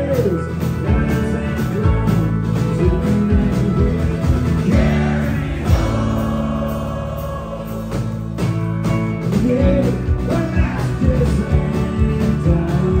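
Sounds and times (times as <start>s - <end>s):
country-rock band playing: 0.0s - 13.0s
steady drum beat: 0.2s - 13.0s.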